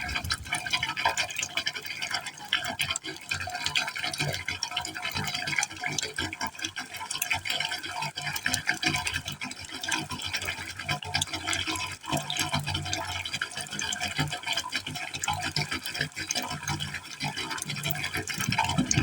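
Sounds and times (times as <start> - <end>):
water splashing into a pipe hole: 0.0 - 19.0.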